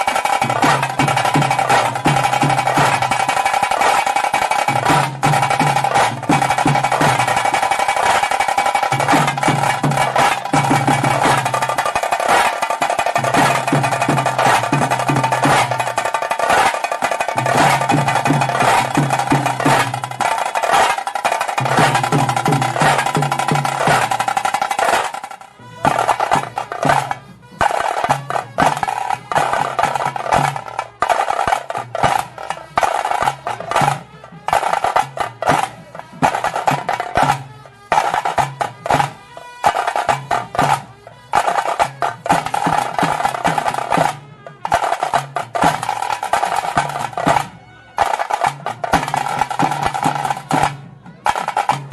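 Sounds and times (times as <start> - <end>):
drums beaten rapidly: 0.0 - 51.9.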